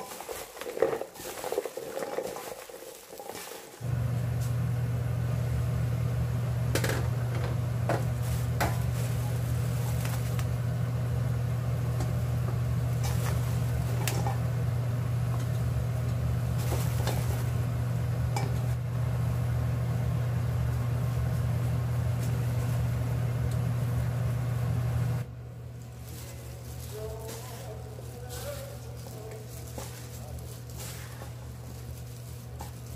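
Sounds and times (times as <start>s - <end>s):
low mechanical hum: 0.0s - 32.9s.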